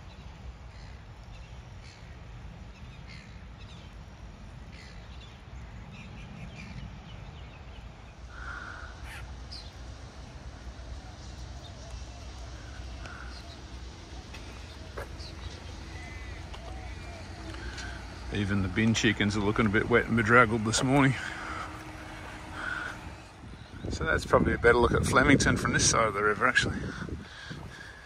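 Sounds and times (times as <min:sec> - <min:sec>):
birds chirping: 0:00.0 - 0:28.0
steady low rumble: 0:01.8 - 0:28.0.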